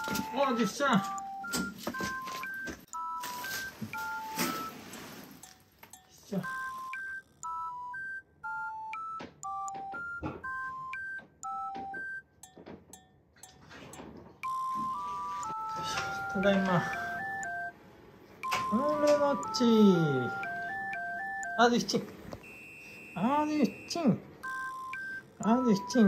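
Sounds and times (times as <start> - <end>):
electronic beep melody: 0.0 - 12.6, 14.4 - 17.8, 18.4 - 26.0.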